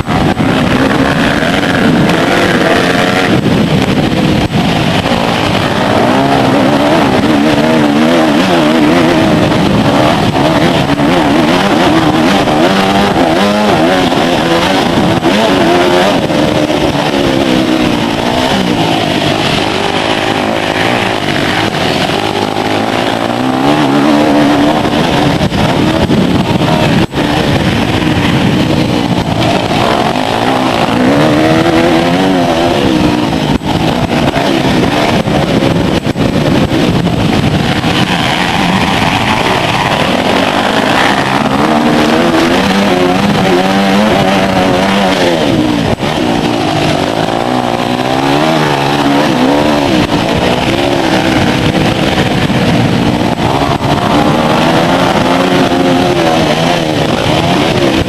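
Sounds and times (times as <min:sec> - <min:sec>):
motocross bike engines: 0:00.0 - 0:58.0.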